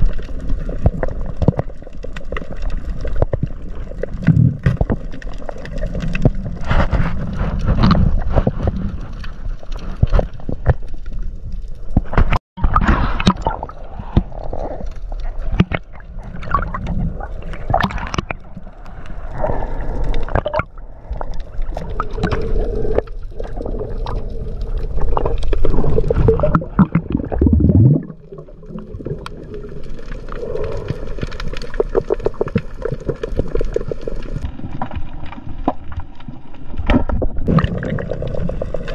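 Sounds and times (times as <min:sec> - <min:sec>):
underwater gurgling and sloshing: 0:00.0 - 0:38.9.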